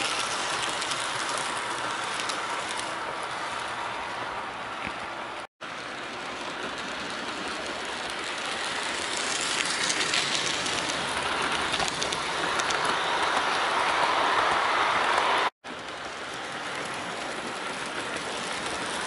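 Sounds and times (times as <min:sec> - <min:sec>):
model train wheels whirring: 0:00.0 - 0:19.0.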